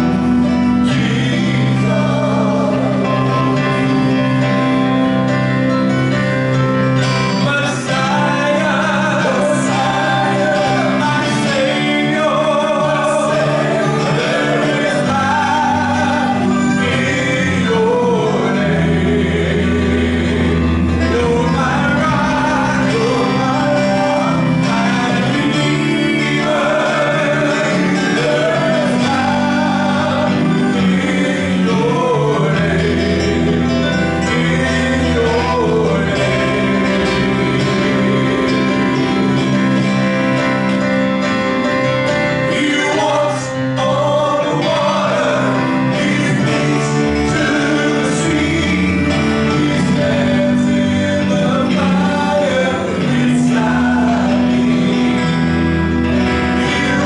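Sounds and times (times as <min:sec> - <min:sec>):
deep bass notes: 0:00.0 - 0:57.0
live band playing: 0:00.0 - 0:57.0
men singing: 0:00.0 - 0:57.0.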